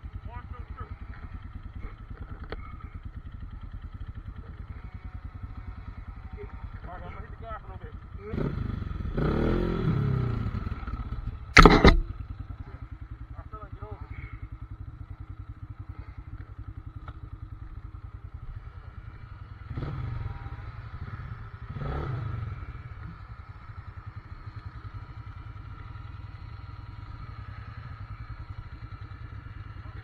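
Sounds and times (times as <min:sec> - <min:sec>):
atv engine pulsing: 0:00.0 - 0:30.0.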